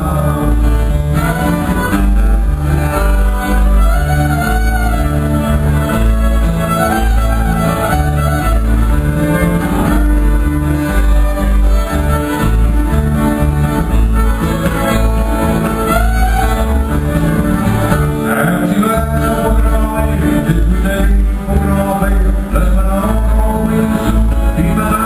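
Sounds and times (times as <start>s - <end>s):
steady bass beat: 0.0s - 24.8s
fiddle: 0.0s - 25.0s
guitar: 0.0s - 25.0s.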